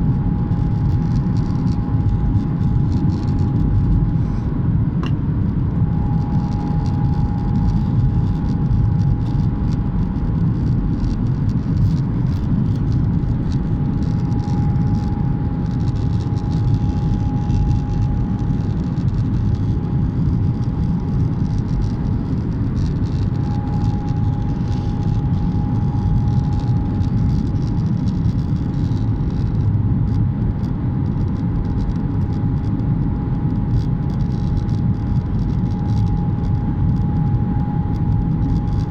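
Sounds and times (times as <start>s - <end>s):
engine and airflow rumble: 0.0s - 38.9s
thin steady whine: 0.0s - 38.9s.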